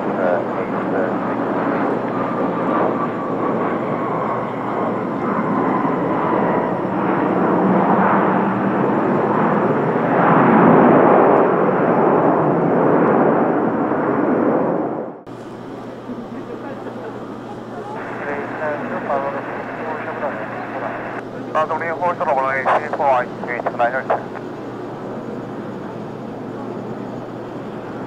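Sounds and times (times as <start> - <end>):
faint engine whine: 0.0 - 28.0
jet engines rushing: 0.0 - 28.0.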